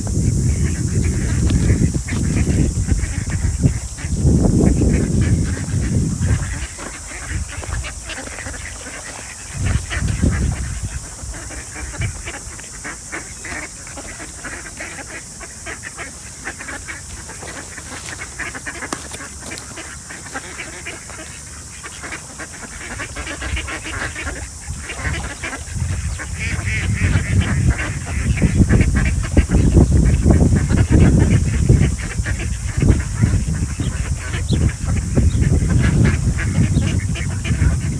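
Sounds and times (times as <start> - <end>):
ducks quacking: 0.0 - 37.9.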